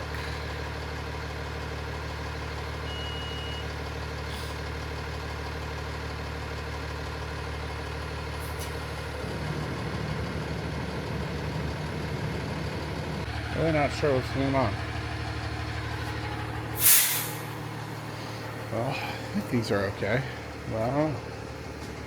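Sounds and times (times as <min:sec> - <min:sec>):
fire truck engine idling: 0:00.0 - 0:22.0.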